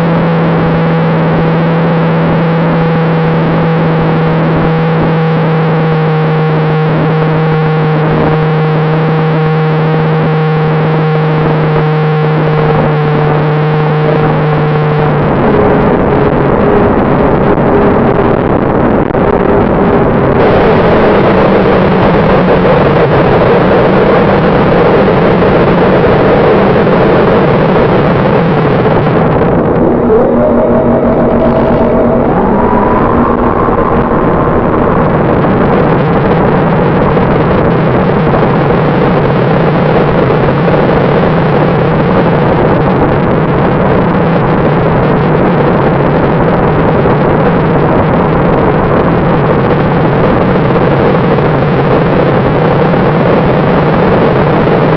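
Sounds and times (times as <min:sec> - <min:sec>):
wind rush over microphone: 0:00.0 - 0:54.9.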